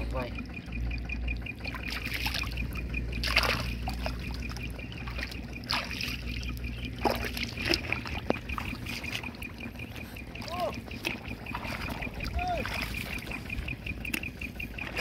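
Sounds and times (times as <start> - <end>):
faint high pulsing tone: 0.0 - 15.0
water splashing and sloshing: 0.0 - 15.0.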